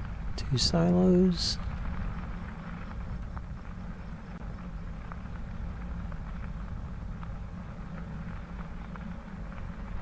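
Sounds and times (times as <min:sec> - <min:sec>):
bicycle tyres rumbling on gravel: 0:00.0 - 0:10.0
small ticks: 0:00.0 - 0:10.0.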